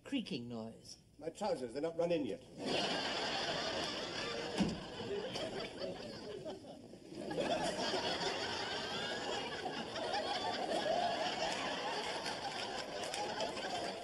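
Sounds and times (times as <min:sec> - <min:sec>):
studio audience laughing: 0:02.6 - 0:14.0.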